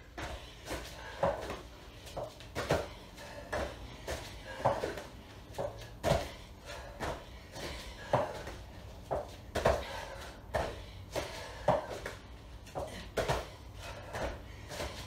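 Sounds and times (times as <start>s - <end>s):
thuds on rubber gym mats: 0.0s - 15.0s.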